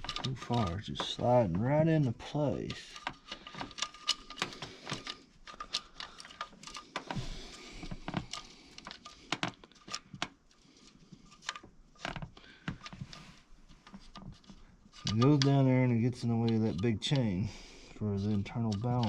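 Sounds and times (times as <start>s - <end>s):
metal parts clicking and clinking: 0.0s - 1.3s, 2.3s - 19.0s.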